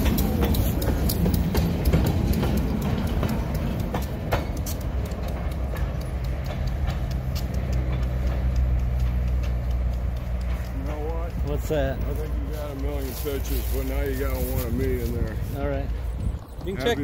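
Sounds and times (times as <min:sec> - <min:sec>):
diesel locomotive rumble: 0:00.0 - 0:17.0
wheels clicking over rails: 0:00.0 - 0:17.0.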